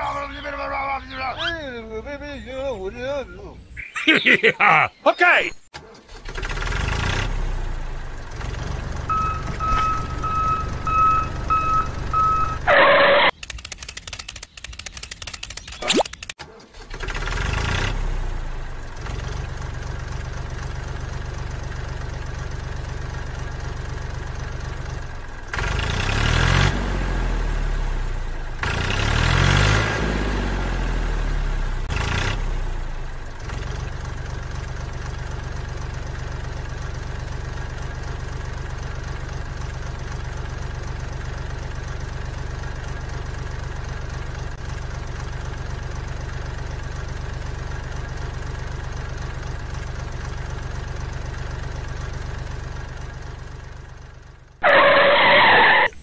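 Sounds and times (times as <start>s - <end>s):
tractor engine idling and revving: 5.7s - 56.0s.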